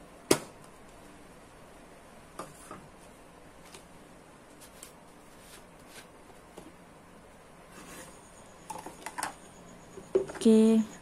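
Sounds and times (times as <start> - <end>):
room hiss: 0.0 - 11.0.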